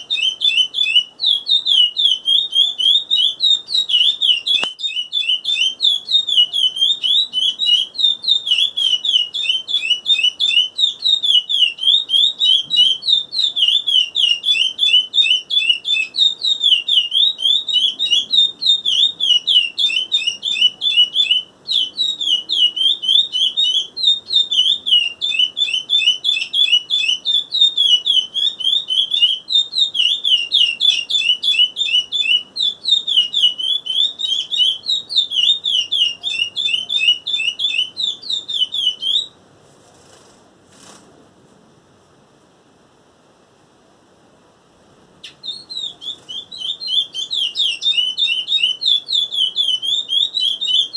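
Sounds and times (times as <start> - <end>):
finch singing rapid chirps: 0.0 - 39.4, 45.2 - 50.9.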